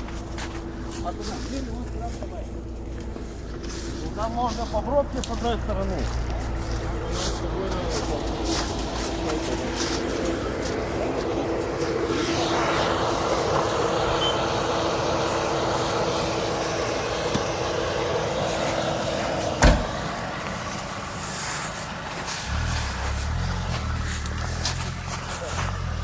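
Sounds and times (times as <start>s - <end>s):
engine running with whine: 0.0s - 26.0s.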